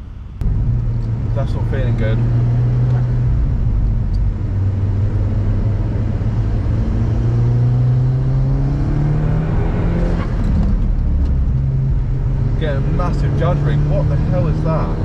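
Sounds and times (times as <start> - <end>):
car engine under load: 0.0 - 15.0.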